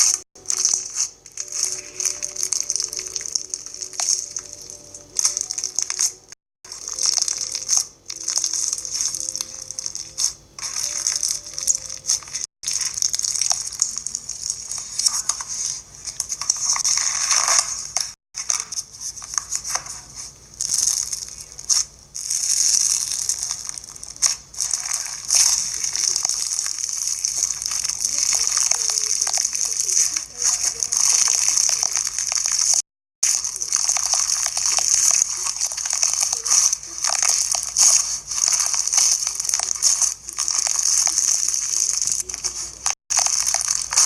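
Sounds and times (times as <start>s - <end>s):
slime crunching and crackling: 0.0s - 44.0s.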